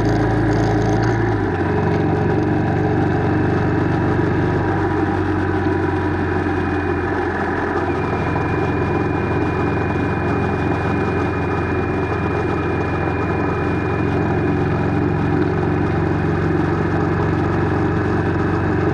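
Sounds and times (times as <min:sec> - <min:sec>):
engine idling: 0:00.0 - 0:18.9
high whine: 0:00.0 - 0:18.9.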